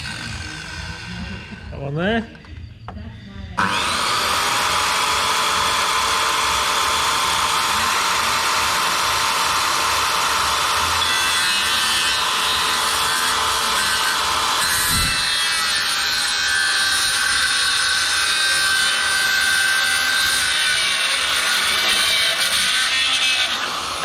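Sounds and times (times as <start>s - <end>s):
electric saw cutting wood: 0.0s - 1.6s, 3.6s - 24.0s.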